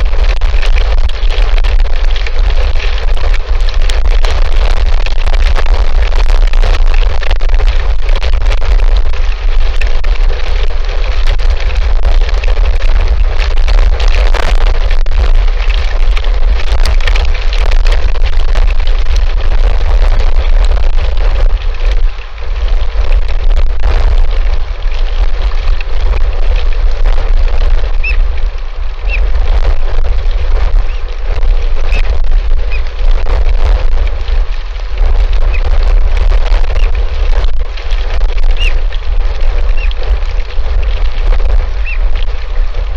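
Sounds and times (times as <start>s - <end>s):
strong wind on microphone: 0.0s - 42.9s.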